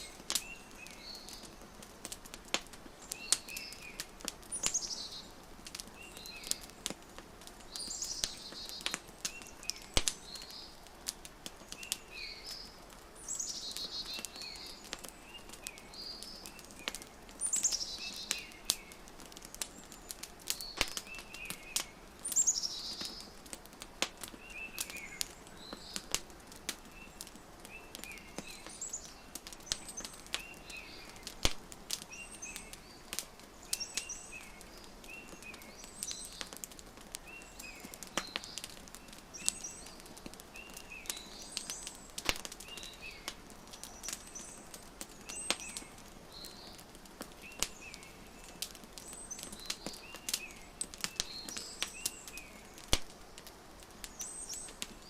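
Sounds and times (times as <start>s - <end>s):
birds chirping: 0.0s - 1.8s, 2.9s - 10.8s, 11.4s - 23.5s, 24.1s - 55.0s
wood fire crackling and popping: 0.0s - 55.0s.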